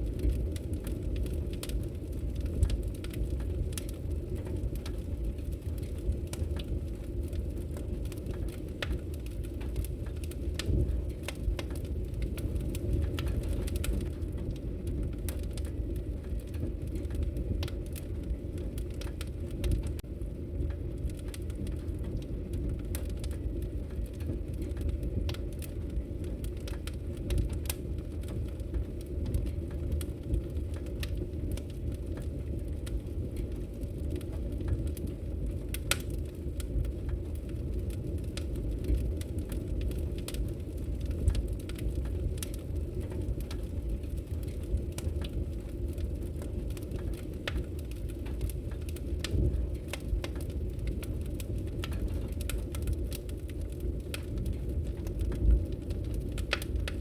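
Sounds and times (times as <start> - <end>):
logs crackling in fireplace: 0.0 - 57.0
low rumble of fire: 0.0 - 57.0.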